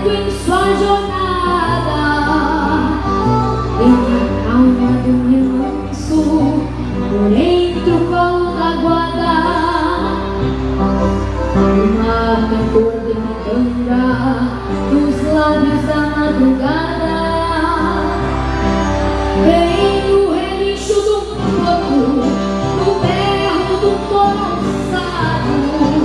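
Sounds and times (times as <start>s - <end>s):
acoustic guitar: 0.0s - 26.0s
piano accordion: 0.0s - 26.0s.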